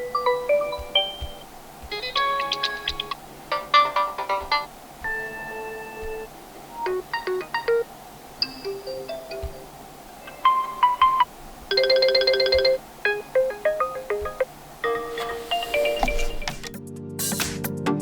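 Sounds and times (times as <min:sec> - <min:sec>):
phone ringtone chimes: 0:00.0 - 0:07.8, 0:08.4 - 0:16.6.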